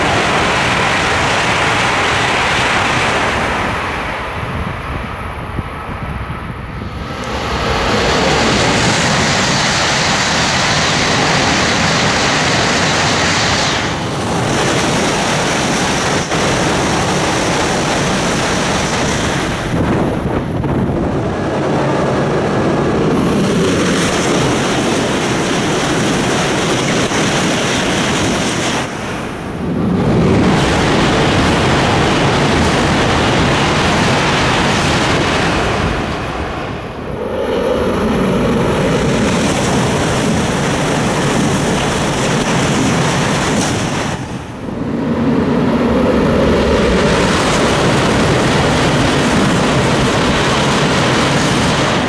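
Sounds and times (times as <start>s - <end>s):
high-speed trains passing: 0.0s - 52.0s.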